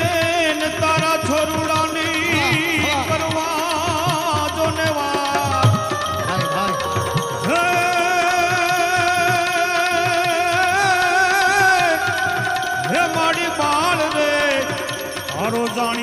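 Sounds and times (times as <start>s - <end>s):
hand drumming: 0.0s - 16.0s.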